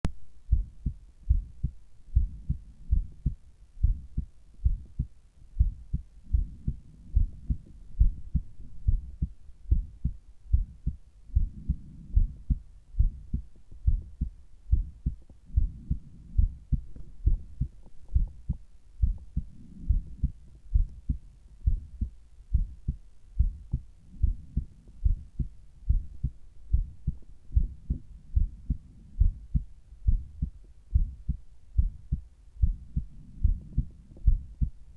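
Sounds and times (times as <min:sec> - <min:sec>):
heartbeat through stethoscope: 0:00.5 - 0:34.9.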